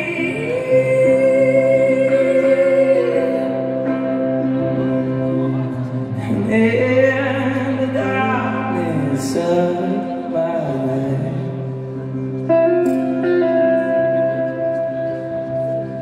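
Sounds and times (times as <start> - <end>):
electric guitar: 0.0 - 16.0
keyboard: 0.0 - 16.0
person singing long notes: 0.0 - 16.0.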